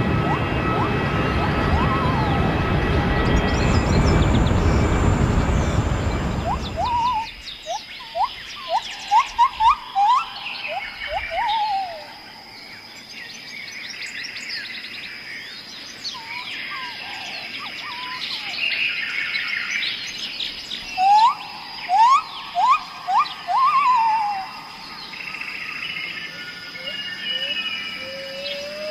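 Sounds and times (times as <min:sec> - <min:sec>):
songbirds chirping and singing: 0:00.0 - 0:28.9.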